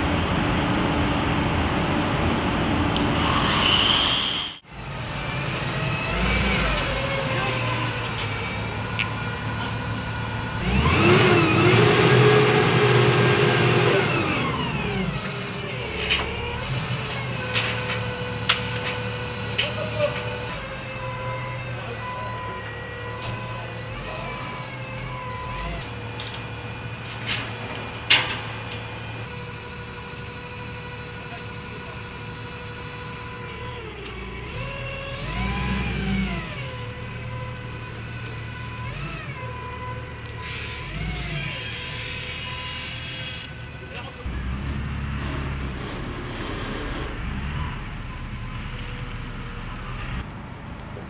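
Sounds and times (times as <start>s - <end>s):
forklift engine running: 4.6s - 51.0s.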